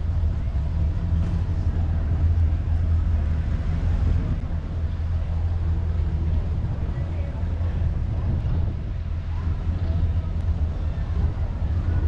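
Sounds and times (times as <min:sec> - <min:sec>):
car engine low rumble: 0:00.0 - 0:12.0
street traffic: 0:00.0 - 0:12.0.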